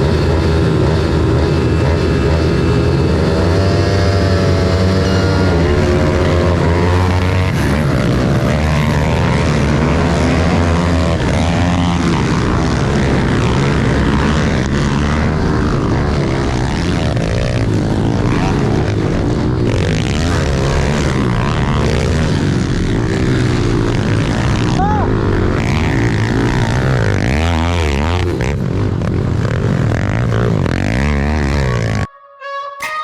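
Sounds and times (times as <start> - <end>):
pit bike engines revving: 0.0 - 32.1.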